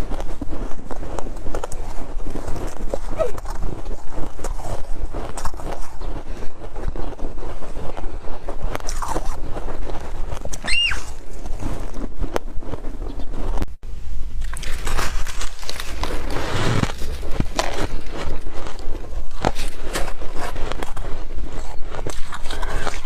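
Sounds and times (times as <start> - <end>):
snow crunching while chewed: 0.0 - 13.6, 14.4 - 23.0.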